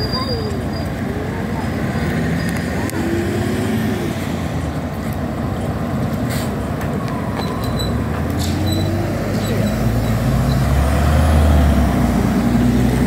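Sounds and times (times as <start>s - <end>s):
traffic engines idling: 0.0s - 13.0s.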